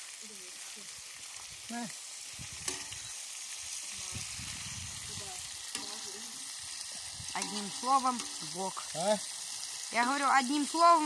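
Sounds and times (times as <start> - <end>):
meat sizzling in pan: 0.0 - 11.0.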